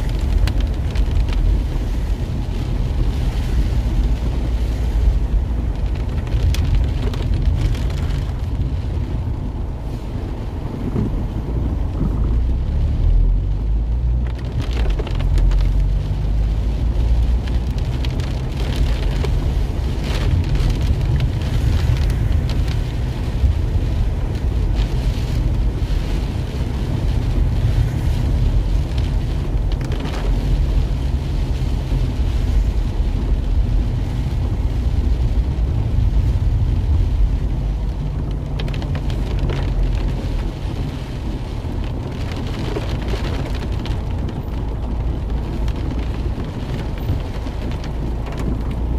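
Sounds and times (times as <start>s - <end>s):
car rumble and tyres on wet road: 0.0s - 48.9s
rain pattering on car windshield: 0.0s - 48.9s.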